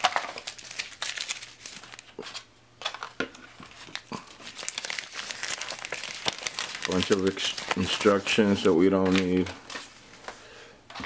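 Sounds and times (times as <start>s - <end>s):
cardboard and plastic crinkling: 0.0s - 11.0s.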